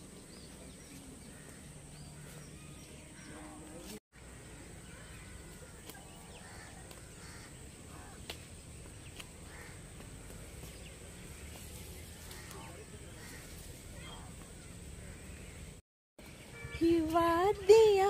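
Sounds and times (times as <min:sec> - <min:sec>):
birds chirping and calling: 0:00.0 - 0:18.0
low outdoor noise: 0:00.0 - 0:18.0.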